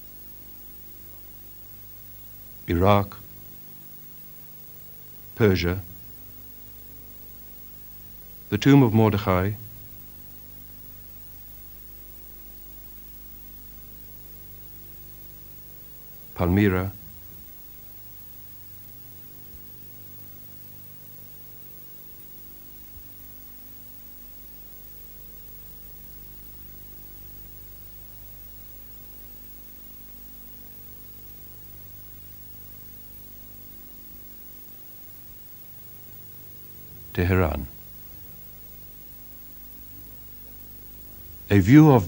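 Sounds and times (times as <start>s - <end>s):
low electrical hum: 0.0s - 42.0s
steady hiss: 0.0s - 42.0s.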